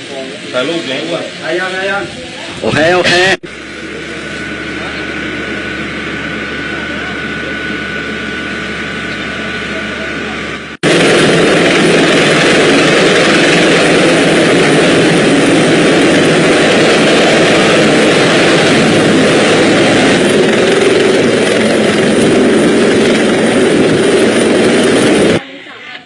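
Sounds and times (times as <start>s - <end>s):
helicopter rotor and engine: 0.0s - 25.8s
rush of rotor downwash: 3.8s - 25.4s.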